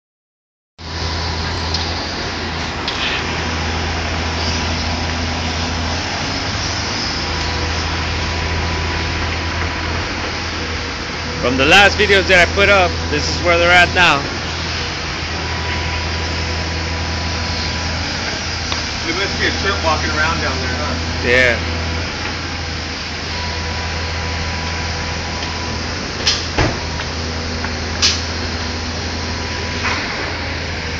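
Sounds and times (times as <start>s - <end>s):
machinery low hum: 0.8s - 30.9s.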